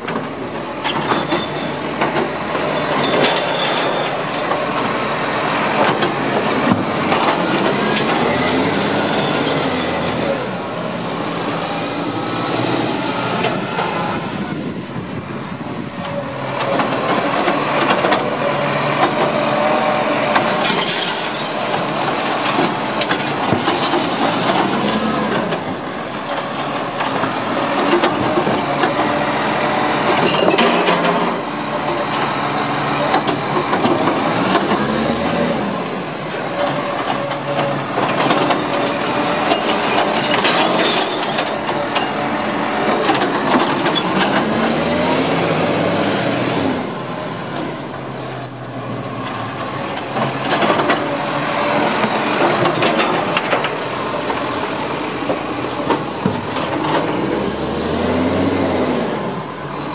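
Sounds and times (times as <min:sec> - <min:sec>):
truck engine revving: 0:01.8 - 0:59.9.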